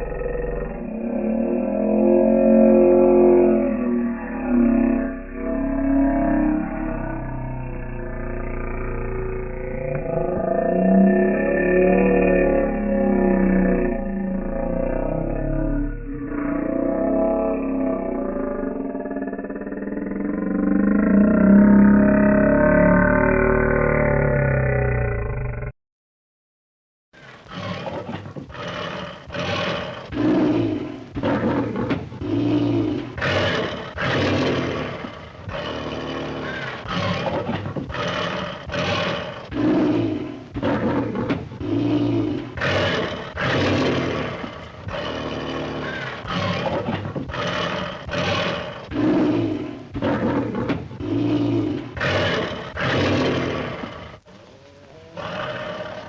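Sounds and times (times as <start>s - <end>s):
lions roaring and grunting: 0.0s - 25.0s, 27.2s - 56.0s.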